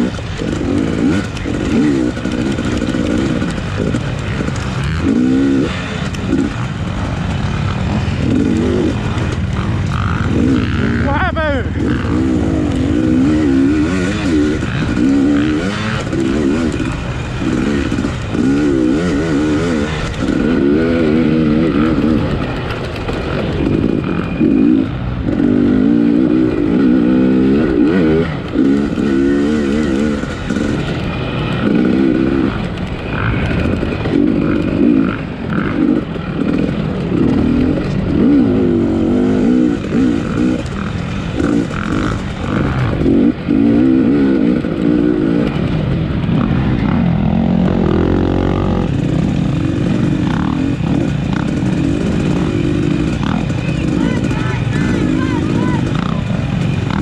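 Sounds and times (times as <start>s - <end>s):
motorcycle engine under hard throttle: 0.0s - 57.0s.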